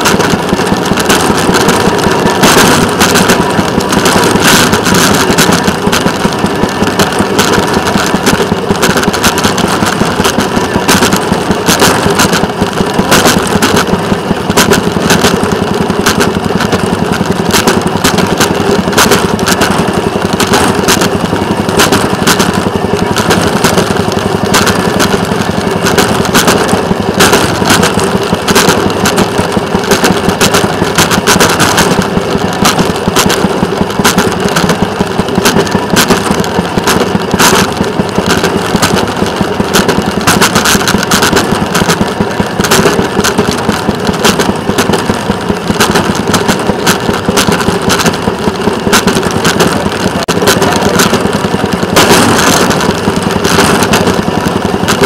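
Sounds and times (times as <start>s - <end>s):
sharp clicks and rattles: 0.0s - 55.0s
small engine running: 0.0s - 55.0s.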